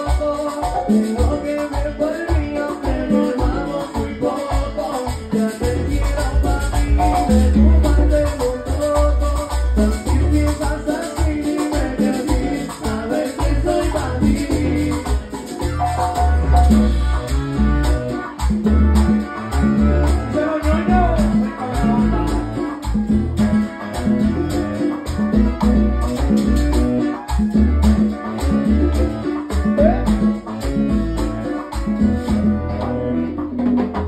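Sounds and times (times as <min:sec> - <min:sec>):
rattling percussion: 0:00.0 - 0:32.6
congas: 0:00.0 - 0:34.0
salsa band playing: 0:00.0 - 0:34.0.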